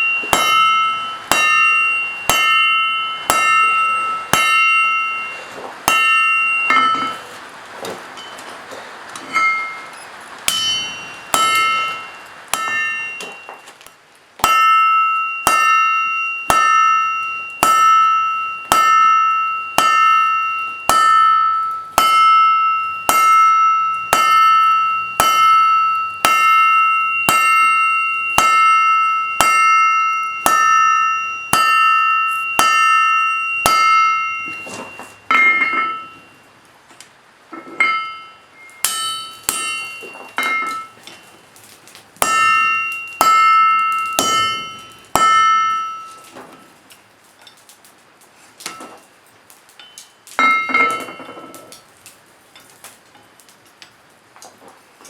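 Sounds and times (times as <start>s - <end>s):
hammer striking steel on anvil: 0.0s - 7.4s, 9.2s - 36.4s, 37.5s - 41.5s, 42.2s - 46.8s, 48.6s - 49.1s, 49.8s - 51.8s.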